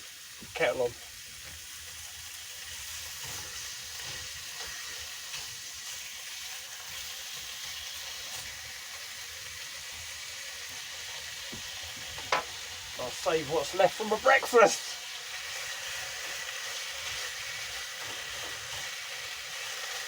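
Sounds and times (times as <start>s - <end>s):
bacon sizzling in a pan: 0.0s - 20.0s.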